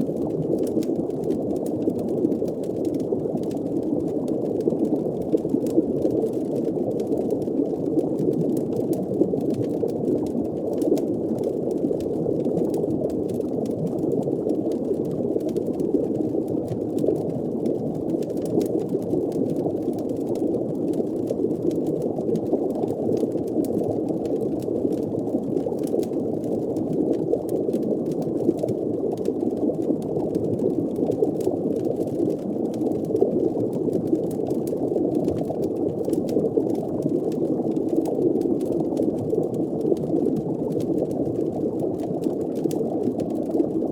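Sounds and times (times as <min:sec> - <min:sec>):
faint crackles: 0:00.0 - 0:43.9
underwater rumble and bubbling: 0:00.0 - 0:43.9.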